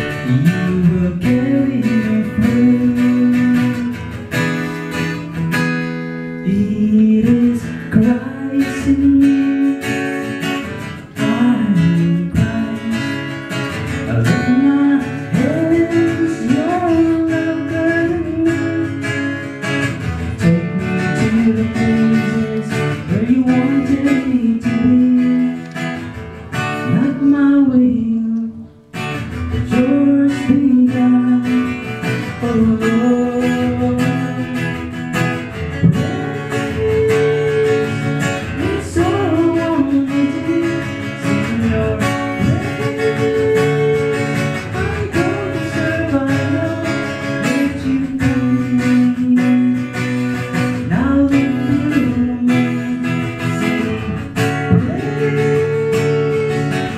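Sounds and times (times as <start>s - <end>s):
person singing: 0.0s - 4.7s, 6.4s - 25.8s, 26.8s - 56.9s
strummed acoustic guitar: 0.0s - 56.9s.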